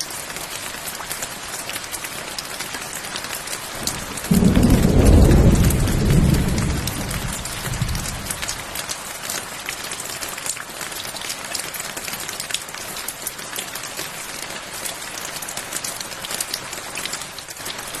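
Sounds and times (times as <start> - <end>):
rain drops hitting a surface: 0.0 - 18.0.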